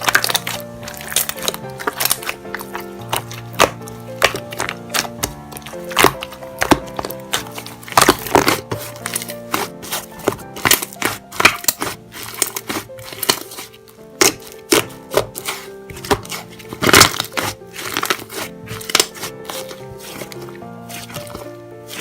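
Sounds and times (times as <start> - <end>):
crunchy crackles and pops: 0.0 - 20.4
background music: 0.0 - 22.0.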